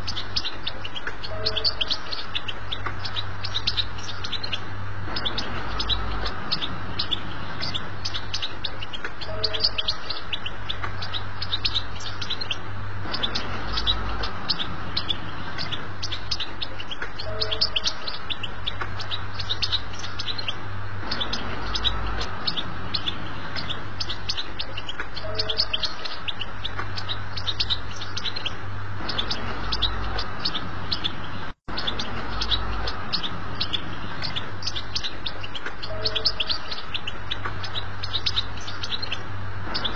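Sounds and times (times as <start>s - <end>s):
finch twittering song: 0.0s - 39.9s
low hum: 0.0s - 39.9s.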